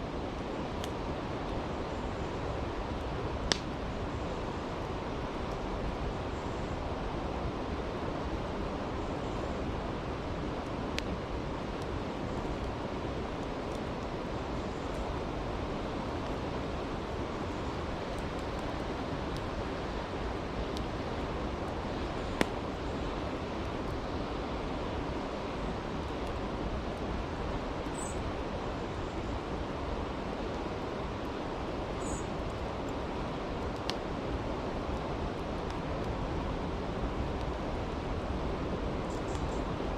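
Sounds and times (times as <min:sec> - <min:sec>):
fire popping: 0:00.0 - 0:06.0, 0:08.9 - 0:39.9
campfire crackling: 0:00.0 - 0:39.9.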